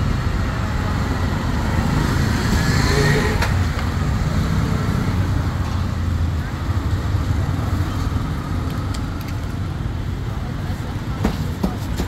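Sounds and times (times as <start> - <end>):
rumble of passing engines: 0.0 - 11.1.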